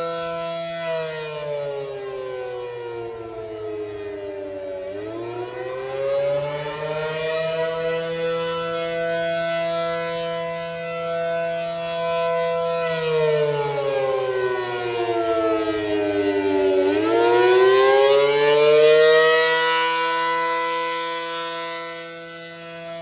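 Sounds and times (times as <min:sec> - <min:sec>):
rotating siren wailing: 0:00.0 - 0:23.0.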